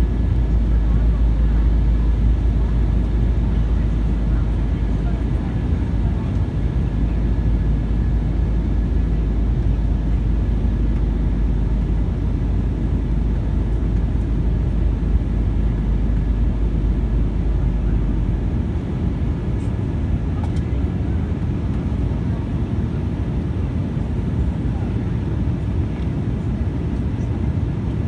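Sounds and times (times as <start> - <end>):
jet cabin roar: 0.0 - 28.0.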